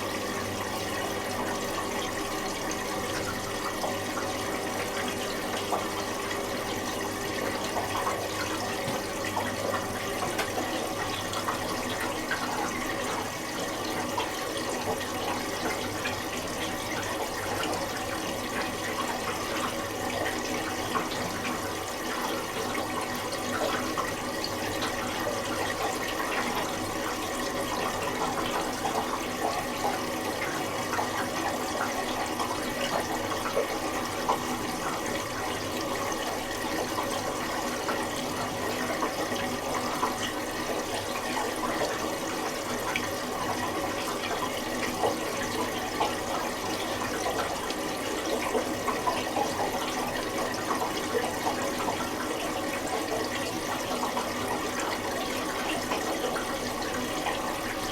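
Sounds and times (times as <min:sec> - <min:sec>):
water running into washing machine: 0:00.0 - 0:57.9.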